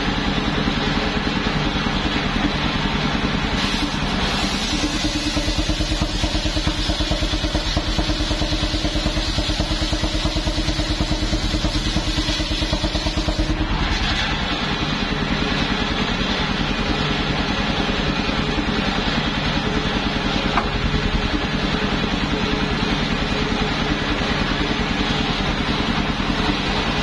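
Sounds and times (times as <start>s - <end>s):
sawmill engine chugging: 0.0s - 27.0s.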